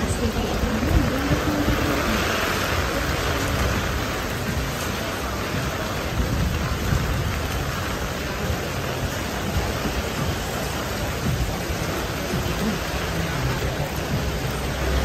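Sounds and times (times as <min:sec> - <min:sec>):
rain on plastic umbrella: 0:00.0 - 0:15.0.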